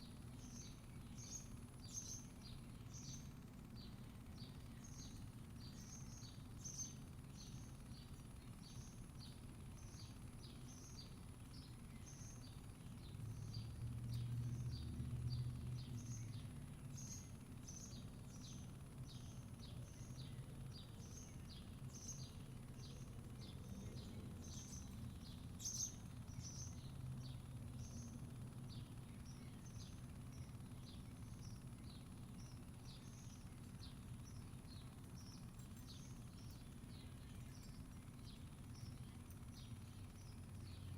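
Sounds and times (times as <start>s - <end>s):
small bird chirping: 0.0s - 40.9s.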